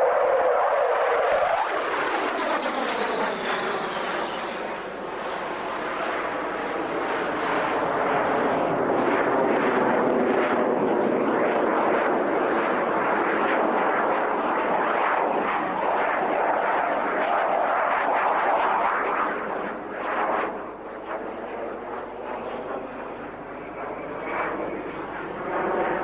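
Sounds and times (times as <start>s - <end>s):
jet aircraft flying past: 0.0s - 26.0s.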